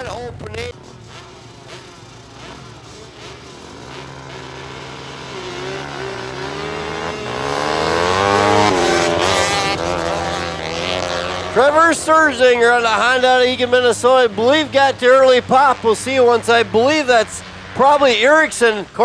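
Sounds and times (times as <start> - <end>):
racing motorcycles accelerating: 0.0 - 19.0.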